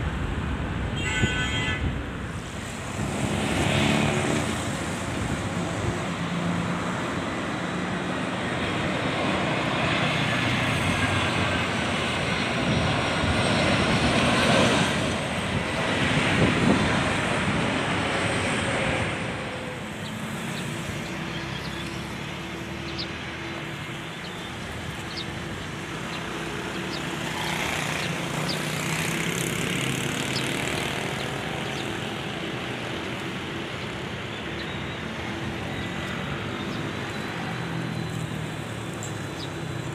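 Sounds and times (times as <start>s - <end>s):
airplane passing by: 0.0s - 39.9s.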